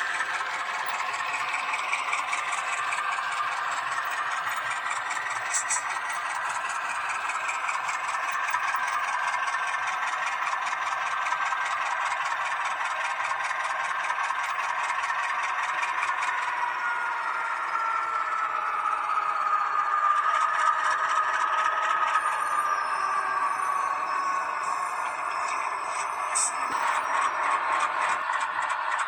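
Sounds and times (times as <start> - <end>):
model locomotive motor whirring: 0.0 - 29.0.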